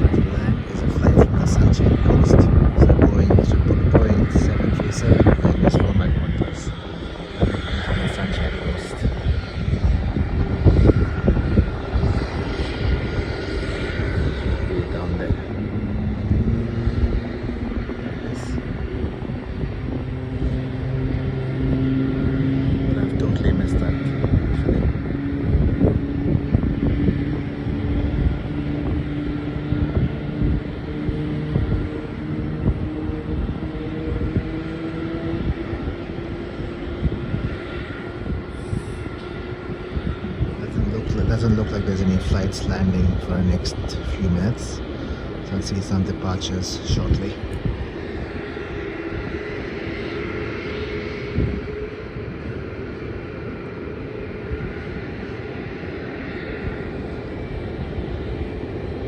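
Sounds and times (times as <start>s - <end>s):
distant jet engines: 0.0s - 59.0s
wind buffeting microphone: 0.0s - 59.0s.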